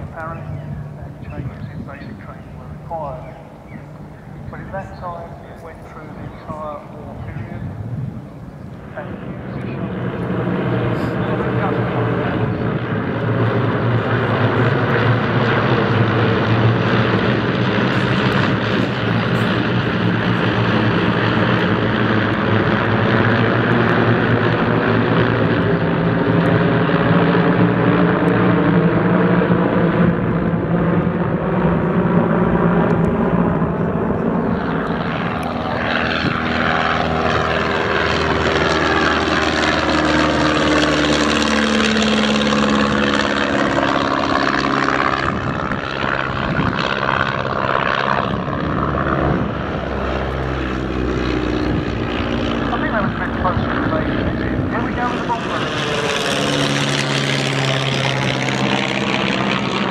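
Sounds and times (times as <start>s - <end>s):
biplane passing by: 0.0s - 59.9s
propeller aircraft droning overhead: 0.0s - 59.9s.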